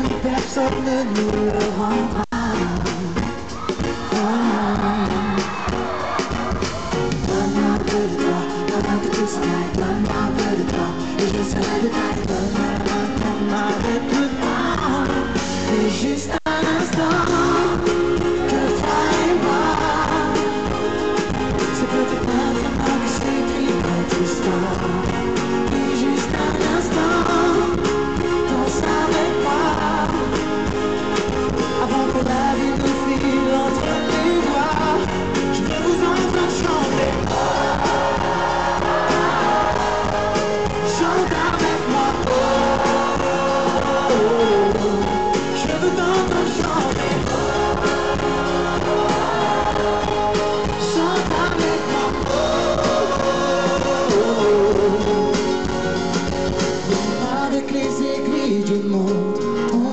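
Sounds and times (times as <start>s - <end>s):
person singing: 0.0s - 56.2s, 56.8s - 59.9s
live pop band: 0.0s - 59.9s.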